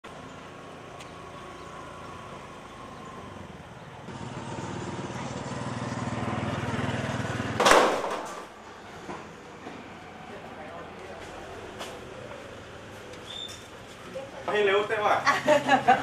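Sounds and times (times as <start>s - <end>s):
approaching engine rumble: 0.0s - 16.0s
vehicle engine humming: 0.0s - 16.0s.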